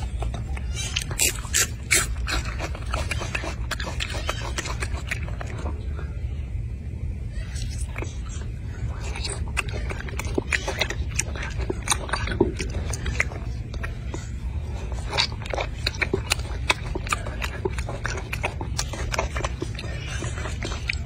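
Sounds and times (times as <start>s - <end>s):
monkey chewing clicks: 0.0s - 5.8s, 8.8s - 21.0s
steady low rumble: 0.0s - 21.0s.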